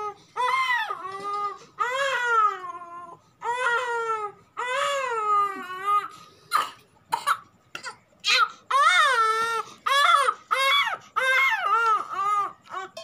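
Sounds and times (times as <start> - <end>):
infant crying and sobbing: 0.0 - 6.3, 7.8 - 13.0.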